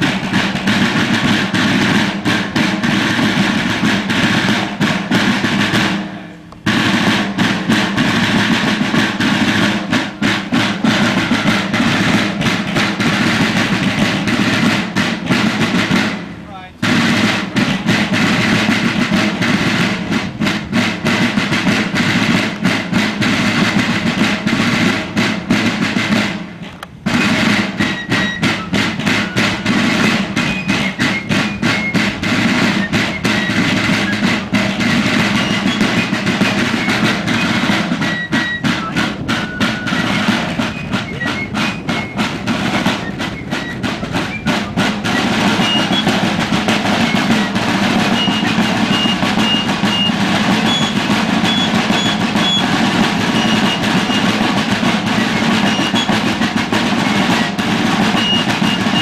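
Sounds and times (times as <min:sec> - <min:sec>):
field drums beating: 0:00.0 - 0:59.0
fife melody: 0:00.0 - 0:59.0.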